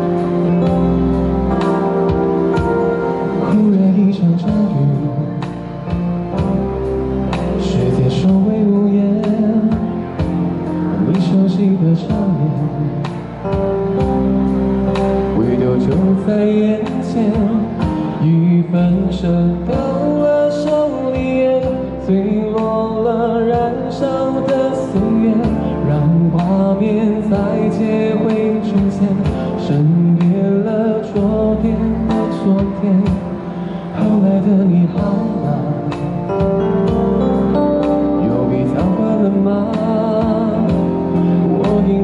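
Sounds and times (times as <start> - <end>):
man singing pop ballad: 0.0 - 14.3, 14.9 - 42.0
electronic keyboard with beat: 0.0 - 42.0.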